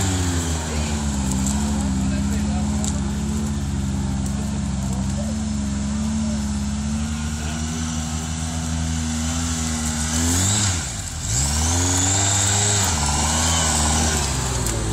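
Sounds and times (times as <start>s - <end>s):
off-road vehicle engine running: 0.0s - 14.9s.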